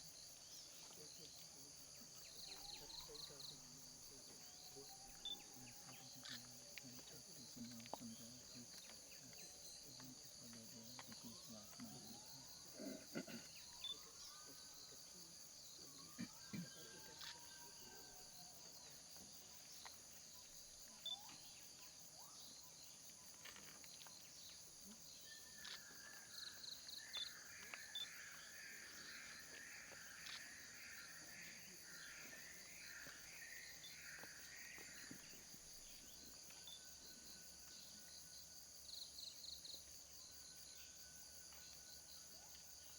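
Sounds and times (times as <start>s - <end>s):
insect chorus: 0.0s - 42.9s.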